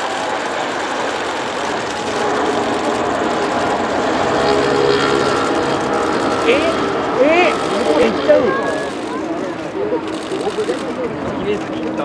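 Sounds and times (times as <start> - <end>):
faint hum: 0.0 - 10.1
jet engines rushing: 0.0 - 12.0.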